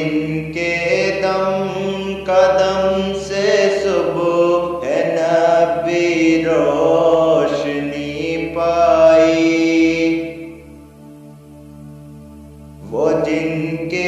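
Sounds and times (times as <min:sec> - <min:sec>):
person singing devotional song: 0:00.0 - 0:11.2, 0:12.7 - 0:14.0.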